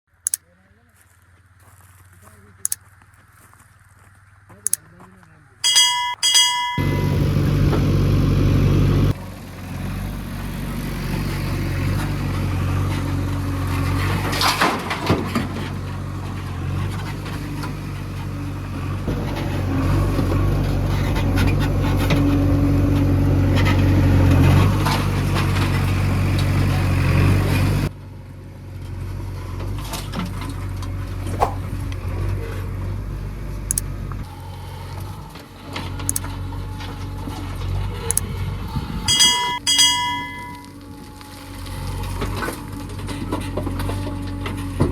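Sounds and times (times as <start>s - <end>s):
diesel engine under load: 5.6s - 44.9s.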